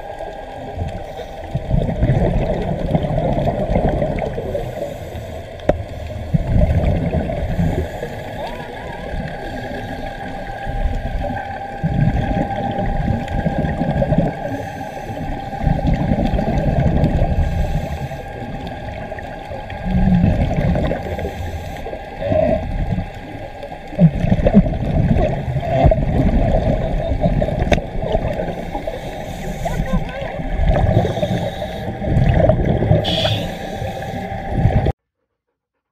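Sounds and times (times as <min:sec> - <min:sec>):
scuba regulator breathing underwater: 0:00.0 - 0:34.9
exhaled bubbles gurgling: 0:00.0 - 0:35.0
faint steady tone: 0:04.2 - 0:34.9.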